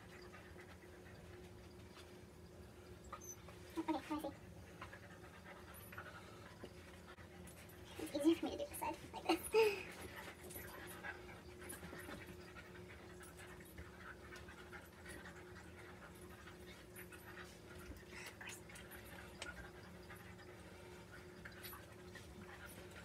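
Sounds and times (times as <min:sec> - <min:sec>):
dog panting: 0:00.0 - 0:23.0
steady low hum: 0:00.0 - 0:23.0.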